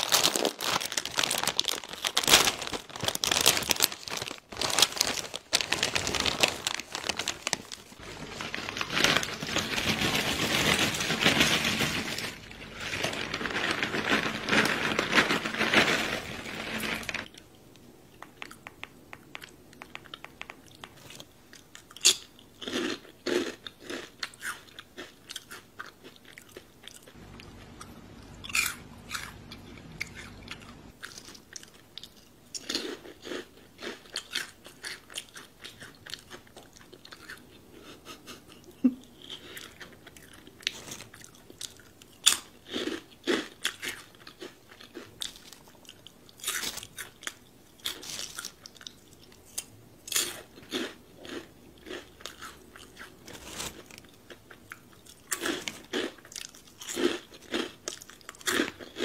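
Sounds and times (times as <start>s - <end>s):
person crunching crispy snacks: 0.0s - 17.4s, 21.0s - 27.8s, 28.4s - 37.6s, 39.0s - 59.0s.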